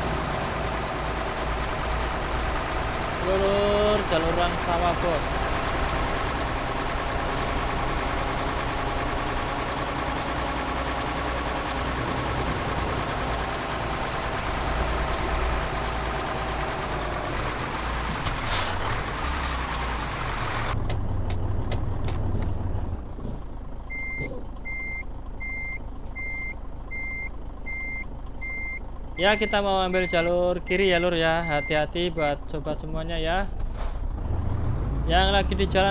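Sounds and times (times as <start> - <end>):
road noise: 0.0 - 35.9
truck engine running: 0.0 - 35.9.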